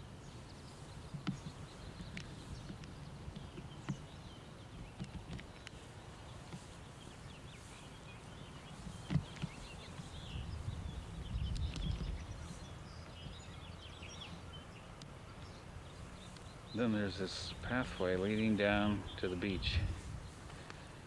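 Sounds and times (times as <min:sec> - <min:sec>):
low rumble on microphone: 0:00.0 - 0:14.8, 0:15.4 - 0:20.7
faint bird chirps: 0:00.0 - 0:21.0.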